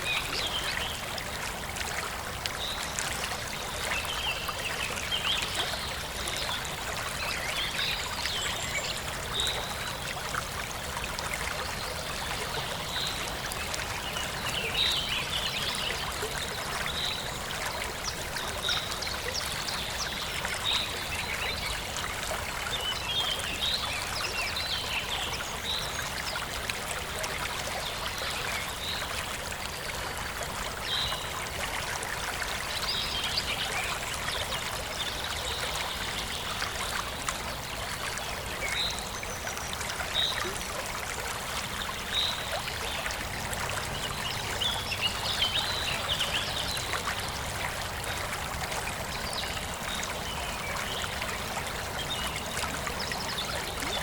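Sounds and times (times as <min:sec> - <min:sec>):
forest stream trickling: 0:00.0 - 0:54.0.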